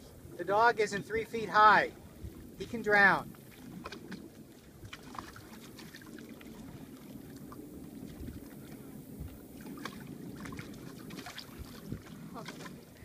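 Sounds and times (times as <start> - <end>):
small waves lapping: 0.0 - 13.0
wind on microphone: 0.0 - 13.0
faint splashes: 0.9 - 13.0.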